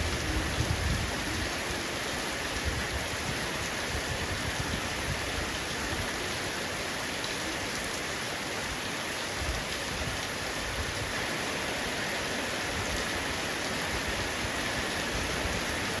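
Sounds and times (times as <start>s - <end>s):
heavy rain on a roof: 0.0s - 16.0s.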